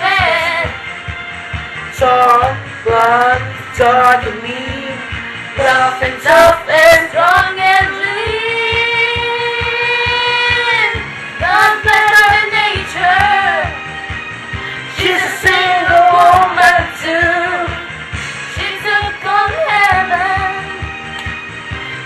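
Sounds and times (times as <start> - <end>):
backing track with steady beat: 0.0 - 22.0
voices singing pop song: 0.0 - 22.0.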